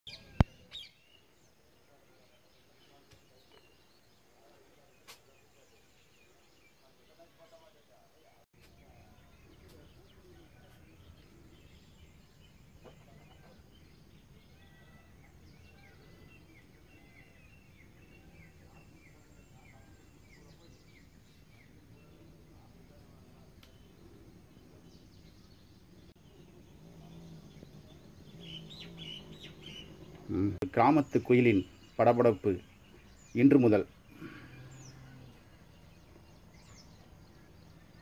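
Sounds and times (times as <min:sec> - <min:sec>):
small birds chirping: 0:00.1 - 0:38.0.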